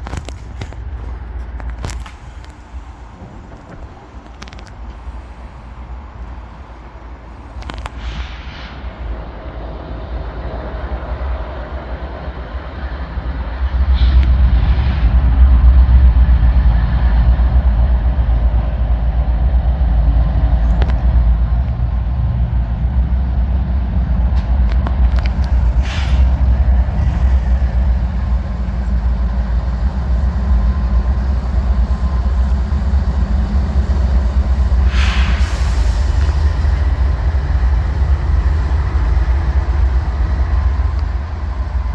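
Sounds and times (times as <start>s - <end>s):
diesel locomotives rumbling past: 0.0s - 41.9s.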